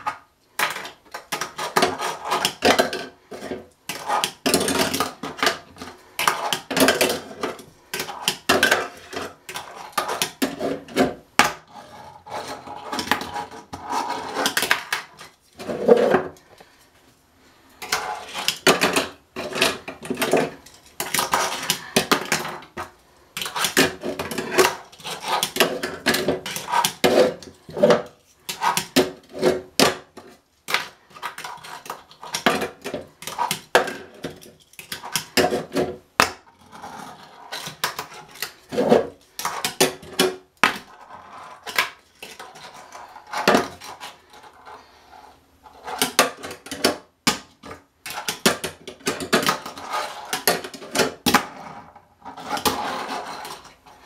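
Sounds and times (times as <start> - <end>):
fingerboard wheels rolling: 0.0 - 16.4, 17.8 - 30.2, 30.8 - 47.1, 48.1 - 54.0.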